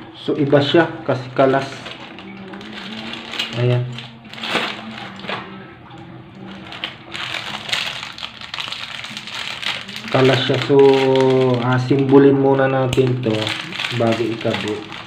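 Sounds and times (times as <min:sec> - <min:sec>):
plastic bags crinkling: 0:01.1 - 0:15.0.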